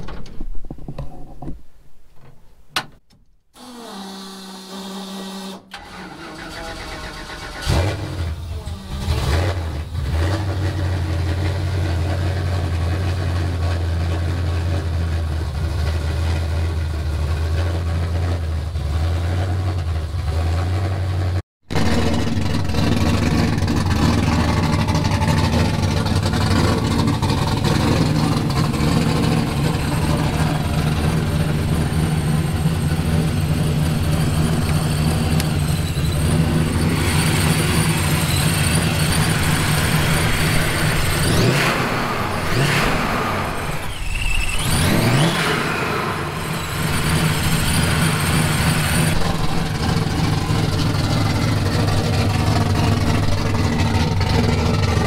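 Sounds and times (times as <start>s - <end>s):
car engine cranking and idling: 4.8s - 55.0s.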